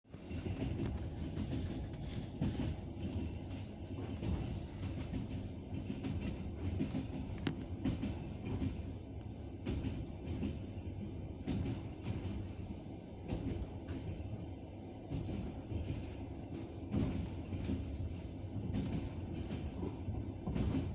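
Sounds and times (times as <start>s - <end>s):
train low rumble: 0.0s - 20.9s.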